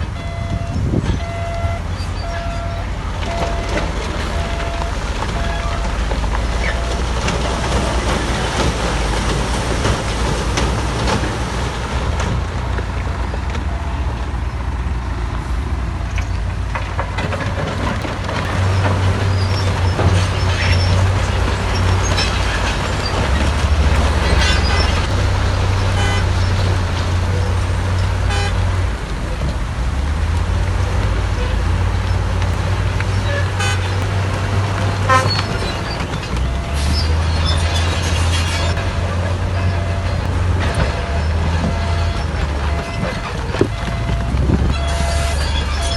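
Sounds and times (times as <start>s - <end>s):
diesel engine droning: 0.0s - 45.9s
knocks and clatter: 1.9s - 45.9s.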